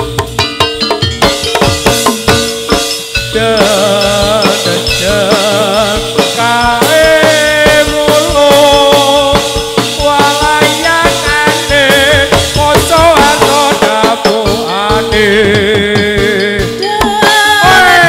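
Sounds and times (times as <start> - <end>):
rattling percussion: 0.0 - 18.0.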